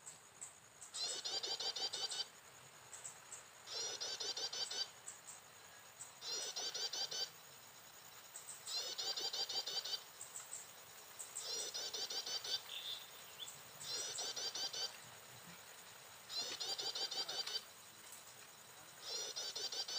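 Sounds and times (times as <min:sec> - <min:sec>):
bird chirping song: 0:00.0 - 0:02.3, 0:02.9 - 0:07.4, 0:08.3 - 0:15.5, 0:16.3 - 0:17.7, 0:19.0 - 0:19.9.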